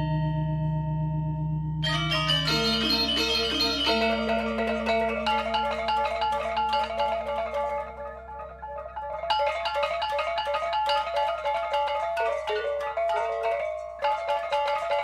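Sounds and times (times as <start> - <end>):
gamelan ensemble playing: 1.8 - 15.0.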